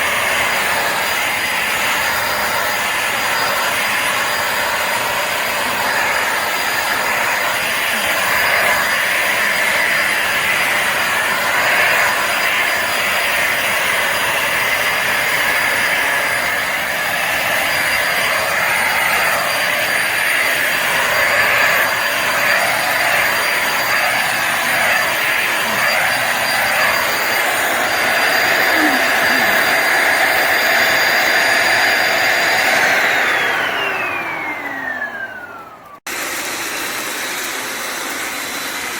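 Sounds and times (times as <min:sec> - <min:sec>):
vacuum motor whining: 0:00.0 - 0:38.9.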